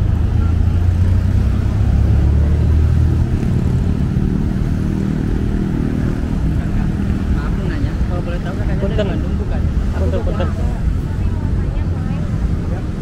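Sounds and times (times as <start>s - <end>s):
street noise: 0.0s - 13.0s
vehicle engine rumbling: 0.0s - 13.0s.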